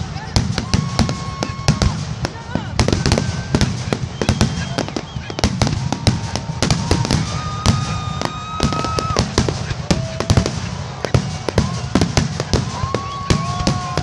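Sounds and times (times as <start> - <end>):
fireworks bangs and crackles: 0.0 - 14.0
fireworks whistling: 0.0 - 14.0.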